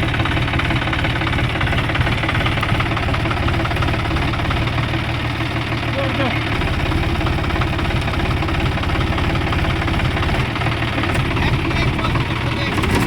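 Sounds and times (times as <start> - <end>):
diesel tractor engine: 0.0 - 13.0.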